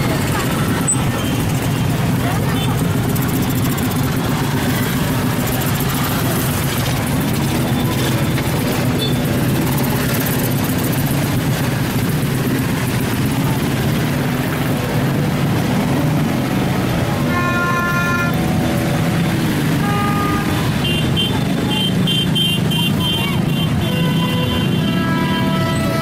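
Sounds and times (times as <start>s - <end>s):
heavy vehicle engine rumbling: 0.0s - 26.0s
street noise: 0.0s - 26.0s.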